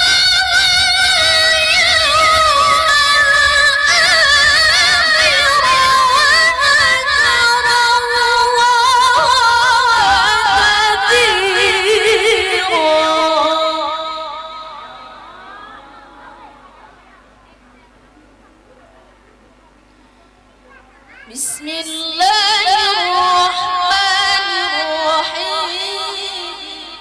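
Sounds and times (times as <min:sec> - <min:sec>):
woman chanting melodic recitation: 0:00.0 - 0:17.6, 0:21.2 - 0:27.0.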